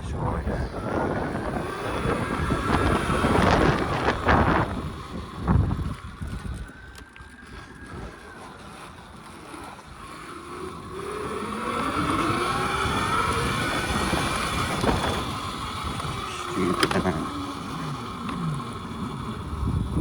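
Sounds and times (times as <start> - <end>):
electric motorbike motor whine: 0.0 - 20.0
wind buffeting microphone: 0.0 - 20.0.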